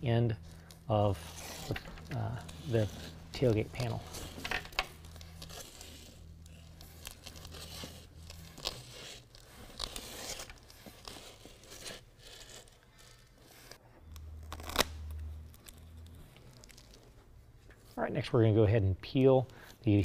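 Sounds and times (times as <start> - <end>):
velcro rasping and crackling: 0.4 - 17.2.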